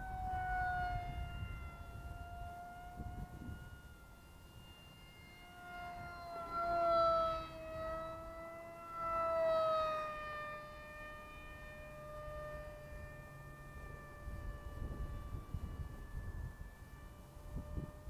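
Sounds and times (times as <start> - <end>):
model jet whine flying past: 0.0 - 18.0.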